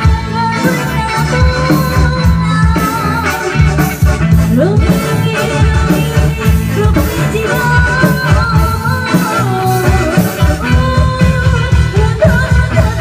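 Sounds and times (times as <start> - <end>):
drum kit: 0.0 - 13.0
electric guitar: 0.0 - 13.0
keyboard: 0.0 - 13.0.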